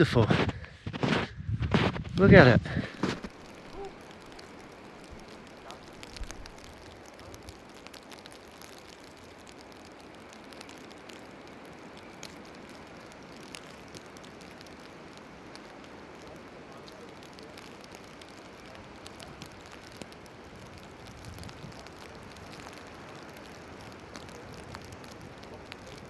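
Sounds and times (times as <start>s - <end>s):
falling snow pattering: 0.0s - 26.0s.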